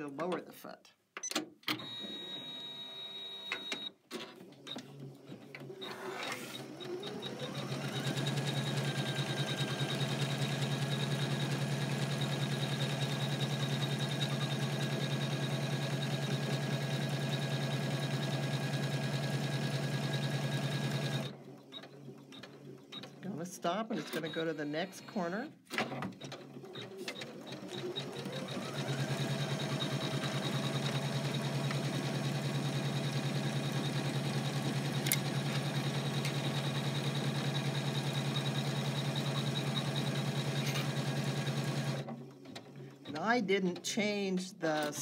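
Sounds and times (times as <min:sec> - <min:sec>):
embroidery machine stitching: 0:01.7 - 0:43.4.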